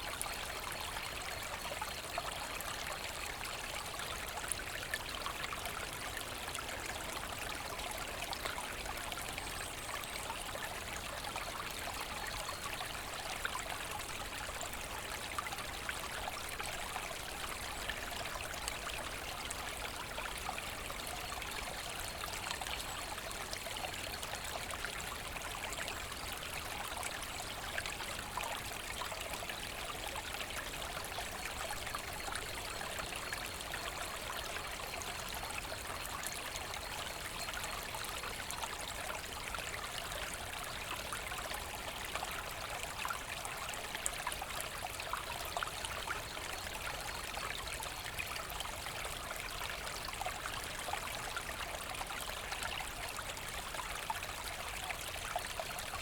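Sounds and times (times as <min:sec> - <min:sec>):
brook water trickling over stones: 0:00.0 - 0:56.0.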